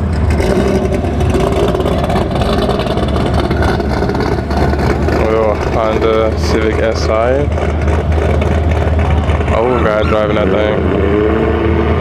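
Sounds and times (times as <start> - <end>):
car engine running: 0.0 - 11.2.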